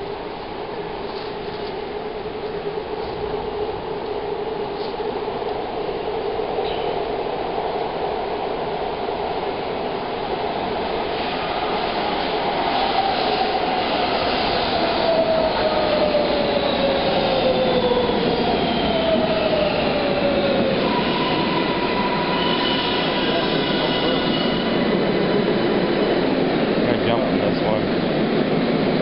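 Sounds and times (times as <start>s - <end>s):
train wheels rushing on rails: 0.0s - 29.0s.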